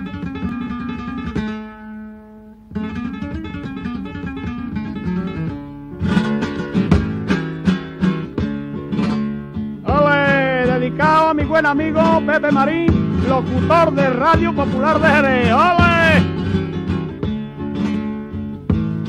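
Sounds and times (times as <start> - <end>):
flamenco guitar: 0.0 - 19.0.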